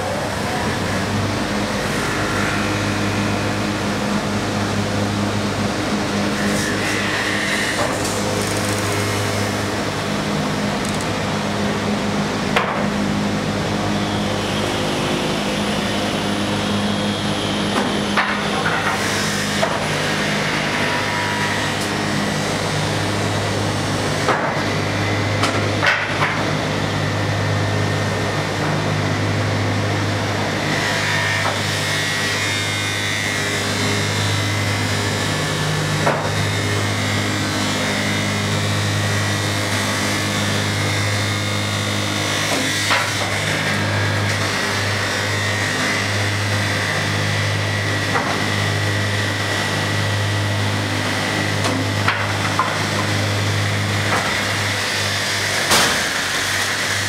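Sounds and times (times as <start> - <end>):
electric motor hum: 0.0 - 57.0.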